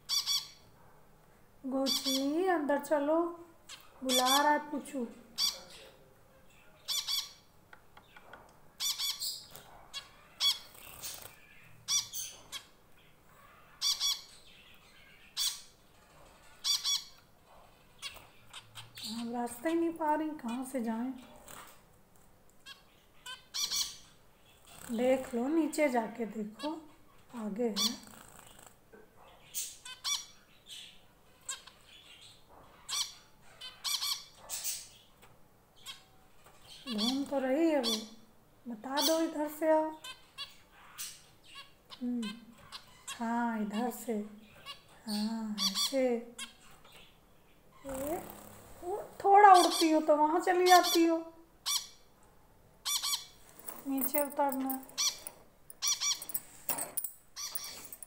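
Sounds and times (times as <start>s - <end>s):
finches chirping: 0.0s - 0.7s, 1.8s - 6.0s, 6.6s - 15.8s, 16.4s - 20.8s, 22.6s - 25.9s, 26.5s - 28.7s, 29.3s - 35.2s, 35.8s - 52.1s, 52.8s - 56.4s, 57.0s - 58.0s
pet birds calling: 0.0s - 0.8s, 1.7s - 21.8s, 22.6s - 52.2s, 52.8s - 58.0s.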